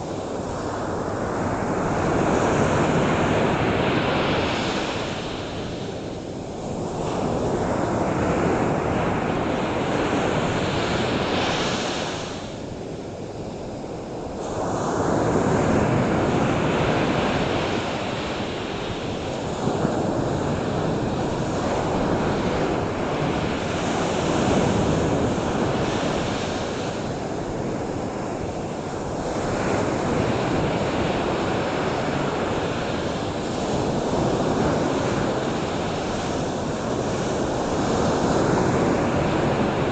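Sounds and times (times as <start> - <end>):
ocean surf washing in: 0.0 - 39.9.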